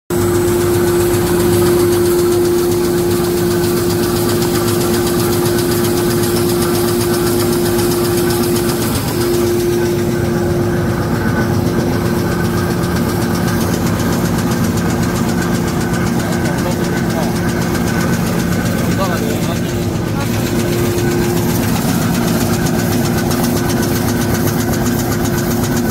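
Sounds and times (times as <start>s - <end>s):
machine humming with clatter: 0.1s - 25.9s.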